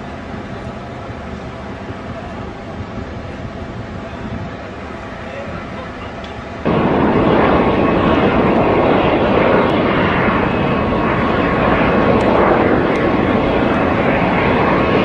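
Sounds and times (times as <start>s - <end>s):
airplane engine noise: 0.0s - 15.0s.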